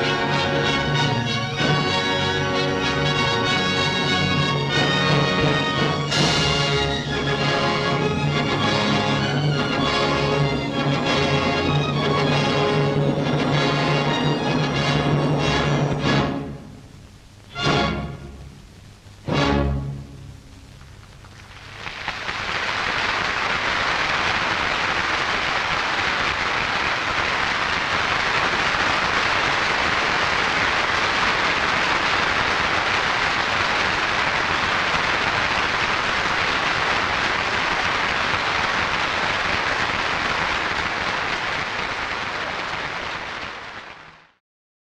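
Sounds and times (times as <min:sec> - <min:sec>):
large audience applauding: 0:00.0 - 0:15.0, 0:20.8 - 0:44.4.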